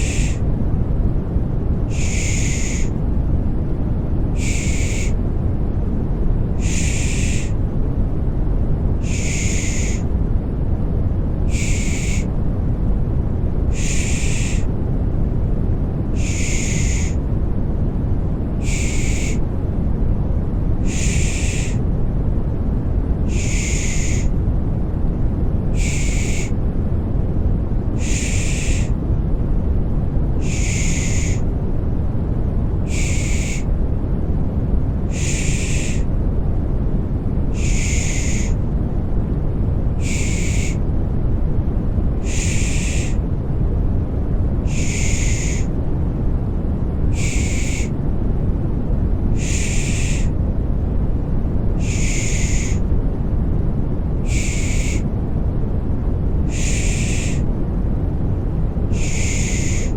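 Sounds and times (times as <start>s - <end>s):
deep white noise: 0.0s - 59.9s.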